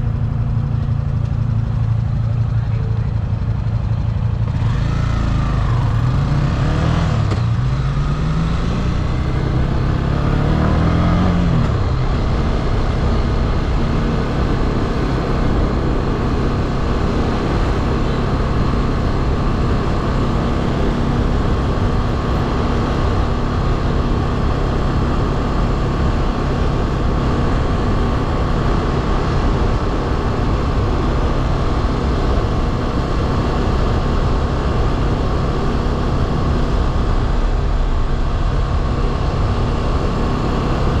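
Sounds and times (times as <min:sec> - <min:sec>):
motorcycle engine cruising: 0:00.0 - 0:41.0.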